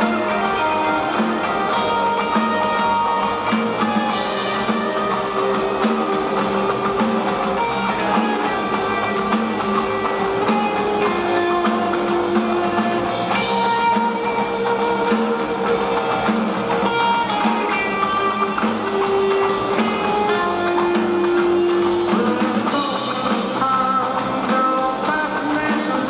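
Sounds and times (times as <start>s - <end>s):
bass line: 0.0s - 26.0s
drums: 0.0s - 26.0s
electric guitar long notes: 0.0s - 26.0s.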